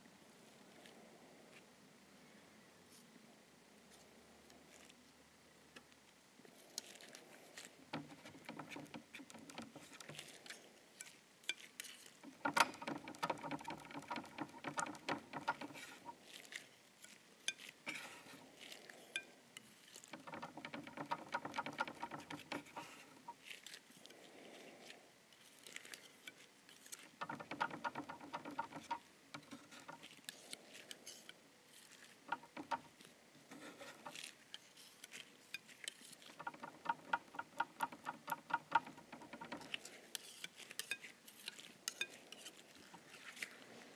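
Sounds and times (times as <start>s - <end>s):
palette knife scraping paint: 6.8s - 24.1s, 25.4s - 43.8s.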